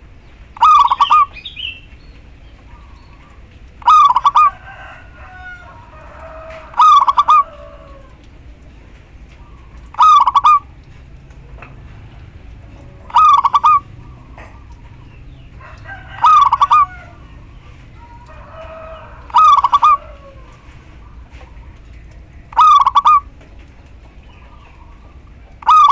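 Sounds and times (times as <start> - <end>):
dove cooing trill: 0.0 - 25.9
other birds calling faintly: 0.0 - 25.9.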